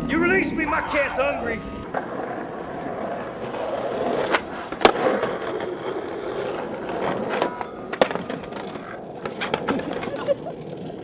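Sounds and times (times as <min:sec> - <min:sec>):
skateboard clacks: 0:01.8 - 0:11.0
skateboard wheels rolling on asphalt: 0:01.8 - 0:11.0.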